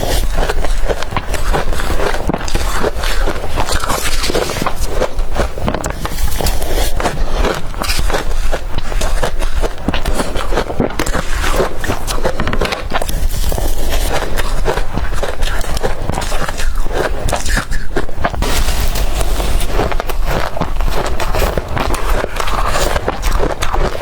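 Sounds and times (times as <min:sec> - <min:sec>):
crunching ice being chewed: 0:00.0 - 0:24.0.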